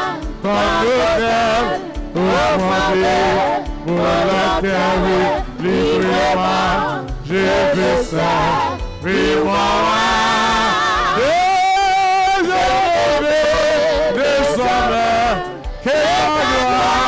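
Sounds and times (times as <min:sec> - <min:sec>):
man singing into microphone: 0:00.0 - 0:06.8, 0:07.6 - 0:17.0
instrumental backing music: 0:00.0 - 0:17.0.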